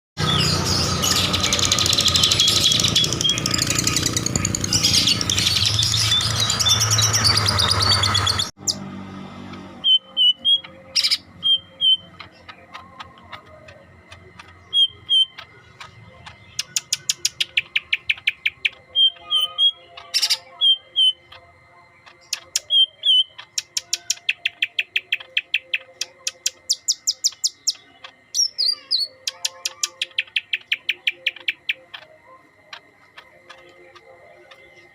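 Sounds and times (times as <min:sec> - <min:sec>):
bird whistles and trills: 0:00.2 - 0:08.8, 0:09.8 - 0:34.9.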